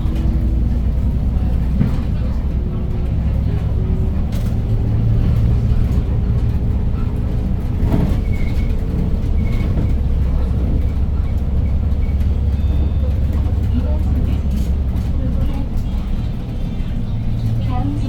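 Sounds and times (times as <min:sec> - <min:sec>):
bus engine droning: 0:00.0 - 0:18.0
road noise: 0:00.0 - 0:18.0.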